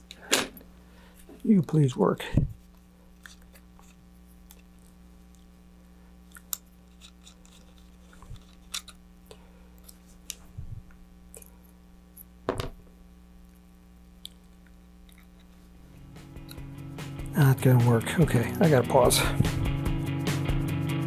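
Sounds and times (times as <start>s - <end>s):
faint steady hum: 0.0s - 20.1s.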